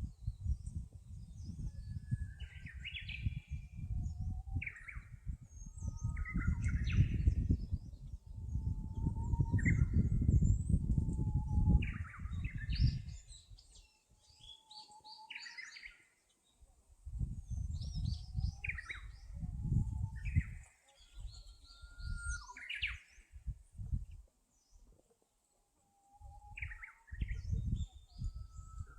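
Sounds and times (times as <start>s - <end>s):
birds chirping and trilling: 0.2s - 25.0s, 26.0s - 28.9s.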